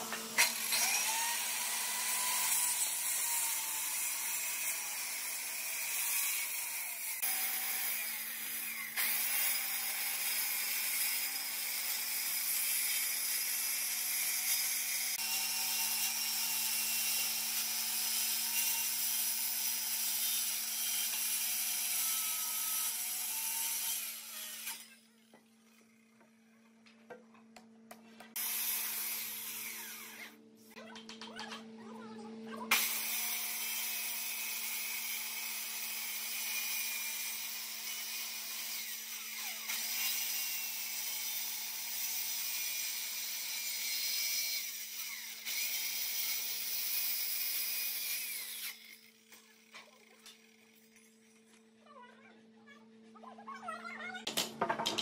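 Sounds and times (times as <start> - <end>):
circular saw cutting wood: 0.0 - 26.4, 28.3 - 30.8, 32.0 - 51.2.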